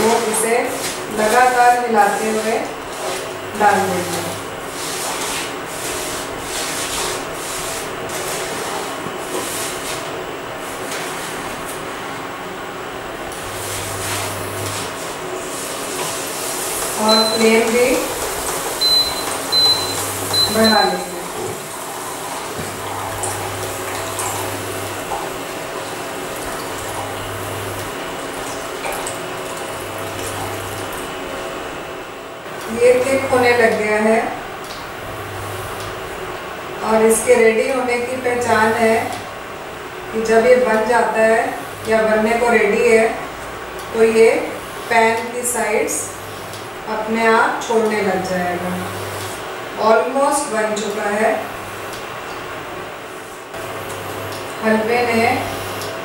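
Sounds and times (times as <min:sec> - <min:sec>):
cooktop humming: 0:00.0 - 0:56.0.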